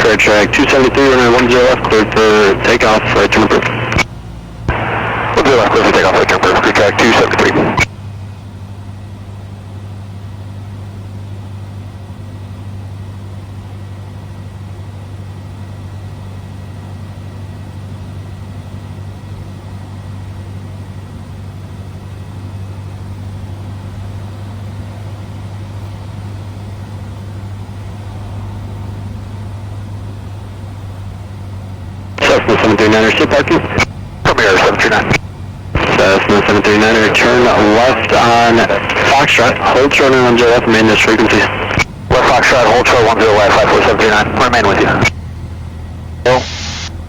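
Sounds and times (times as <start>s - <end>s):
light aircraft engine drone: 0.0s - 47.0s.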